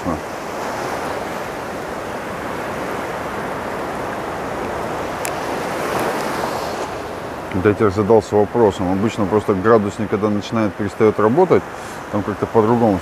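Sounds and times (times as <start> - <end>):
small waves breaking on shore: 0.0 - 13.0.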